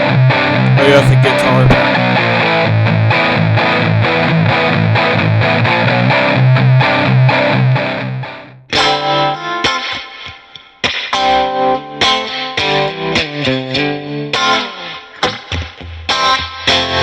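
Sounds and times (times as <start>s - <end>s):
guitar with long held notes: 1.2s - 17.0s.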